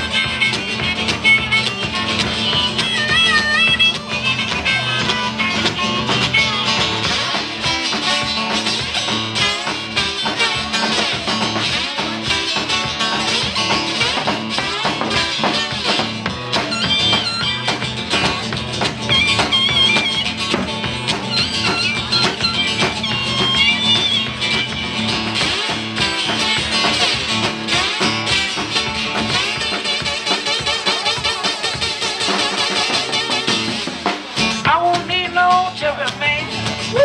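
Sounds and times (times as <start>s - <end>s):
acoustic guitar strumming: 0.0s - 37.0s
drum kit beat: 0.0s - 37.0s.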